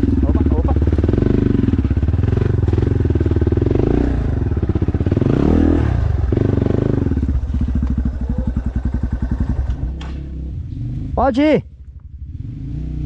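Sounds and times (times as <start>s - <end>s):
dirt bike engine revving: 0.0s - 11.4s, 12.2s - 13.0s.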